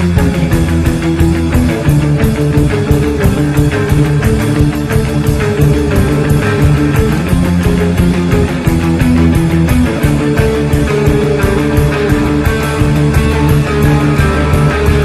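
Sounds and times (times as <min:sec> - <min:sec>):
distorted electric guitar: 0:00.0 - 0:15.0
loud rock music: 0:00.0 - 0:15.0
steady drum beat: 0:00.0 - 0:15.0.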